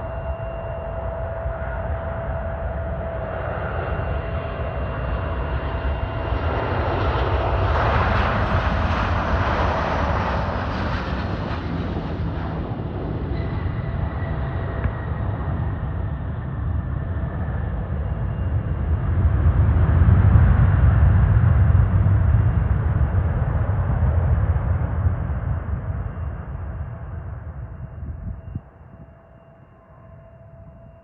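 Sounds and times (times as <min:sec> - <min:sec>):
jet engines passing: 0:00.0 - 0:28.6
jet engine whine: 0:00.0 - 0:31.0.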